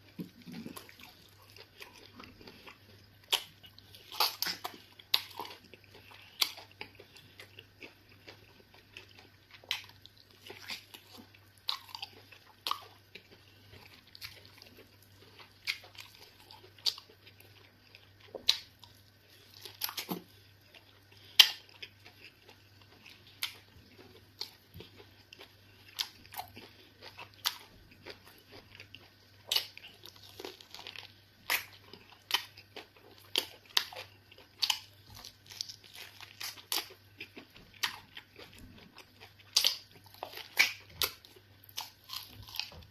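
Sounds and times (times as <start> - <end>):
person chewing and mouth smacks: 0.0 - 42.9.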